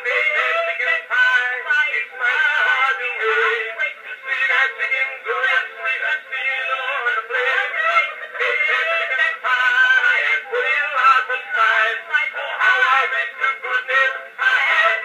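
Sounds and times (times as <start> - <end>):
phonograph recording of man singing: 0.0 - 15.0.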